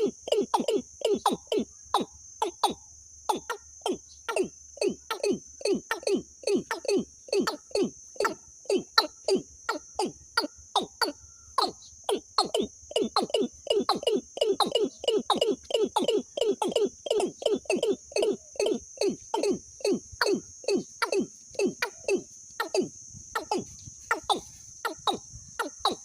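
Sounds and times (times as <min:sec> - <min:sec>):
bird calling: 0:00.0 - 0:26.0
high-pitched insect drone: 0:00.0 - 0:26.0.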